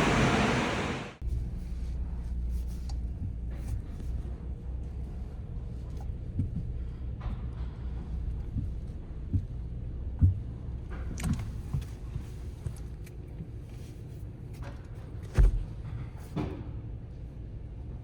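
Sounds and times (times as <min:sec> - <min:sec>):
car wash low rumble: 0:00.0 - 0:14.6.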